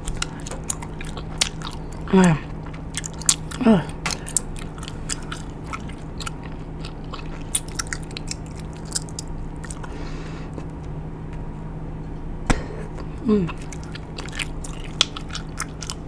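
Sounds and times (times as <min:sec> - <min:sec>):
gum chewing smacks: 0:00.0 - 0:10.8, 0:13.0 - 0:16.0.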